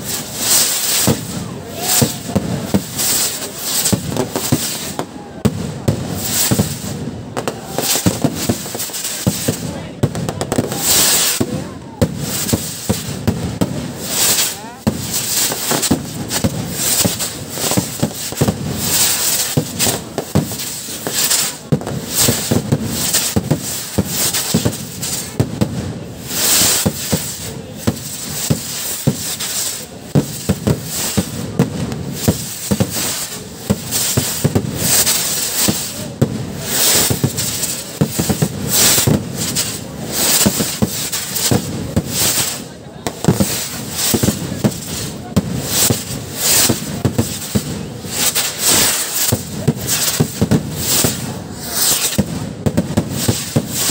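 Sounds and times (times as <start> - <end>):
fireworks and firecrackers banging: 0.0 - 53.9.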